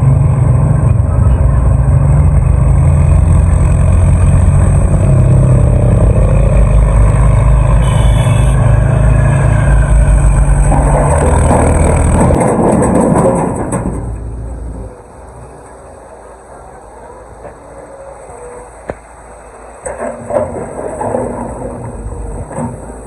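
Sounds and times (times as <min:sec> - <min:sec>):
excavator diesel engine running: 0:00.0 - 0:23.0
rough noisy engine sound: 0:00.0 - 0:23.0.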